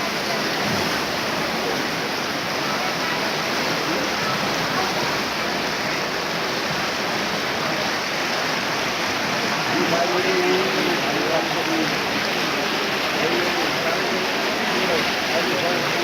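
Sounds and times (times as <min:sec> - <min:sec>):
river floodwater roaring: 0:00.0 - 0:16.0.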